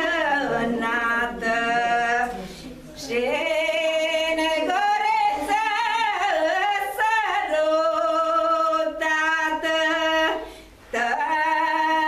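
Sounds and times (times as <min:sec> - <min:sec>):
woman singing folk song: 0:00.0 - 0:12.0.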